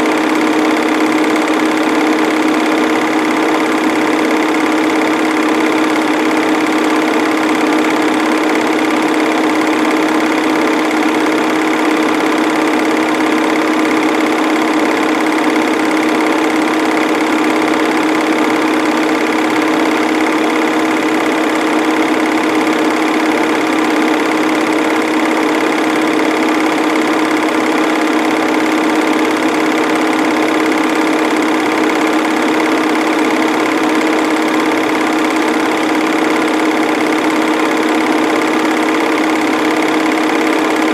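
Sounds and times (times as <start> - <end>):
film transport whir: 0.0 - 40.9
projector motor hum: 0.0 - 40.9.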